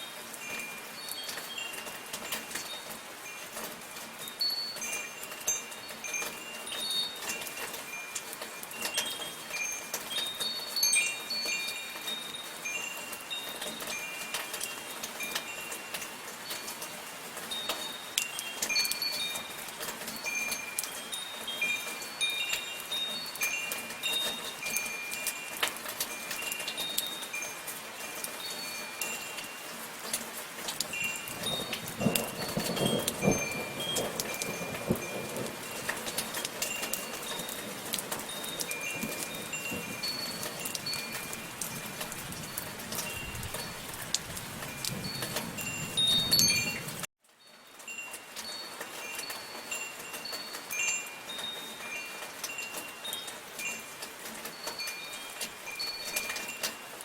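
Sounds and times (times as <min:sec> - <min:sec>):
metal wind chimes ringing: 0:00.0 - 0:57.0
soft falling rain: 0:00.0 - 0:57.0.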